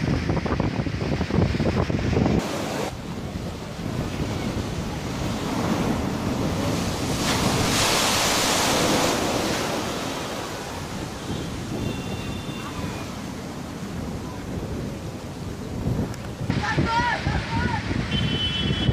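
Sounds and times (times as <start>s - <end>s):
waves crashing on sea wall: 0.0s - 18.9s
water washing back: 2.2s - 18.2s.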